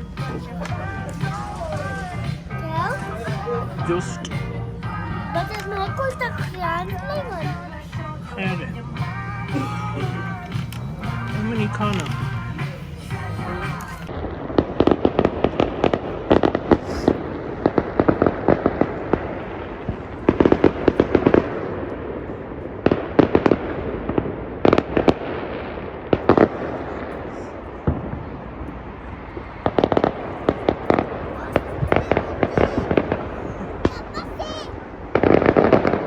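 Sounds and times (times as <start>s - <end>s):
fireworks bangs and crackles: 5.4s - 36.0s.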